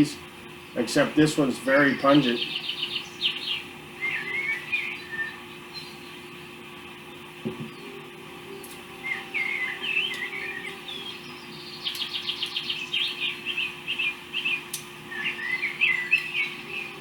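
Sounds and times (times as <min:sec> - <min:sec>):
small bird singing: 0:00.0 - 0:17.0
steady low hum: 0:00.0 - 0:17.0.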